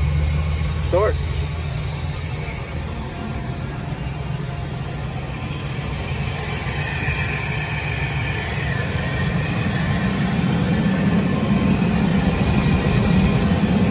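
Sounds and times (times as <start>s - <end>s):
van engine idling: 0.0s - 13.9s.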